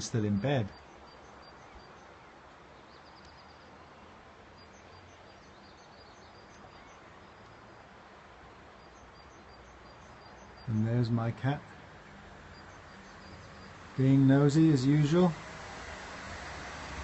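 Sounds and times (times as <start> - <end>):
birds chirping: 0.0 - 15.4
background hiss: 0.0 - 17.0.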